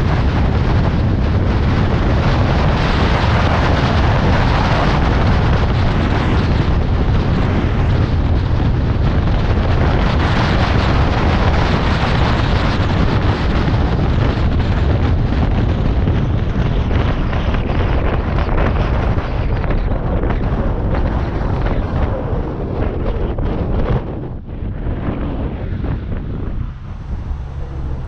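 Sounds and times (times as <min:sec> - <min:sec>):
road and tyre noise: 0:00.0 - 0:28.0
wind rumble on microphone: 0:00.0 - 0:28.0.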